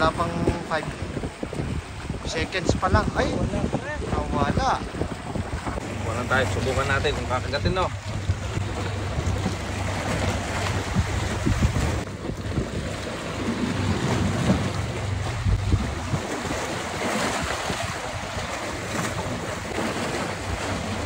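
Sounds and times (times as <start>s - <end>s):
waves washing against rocks: 0.0s - 21.0s
wind buffeting microphone: 0.0s - 21.0s.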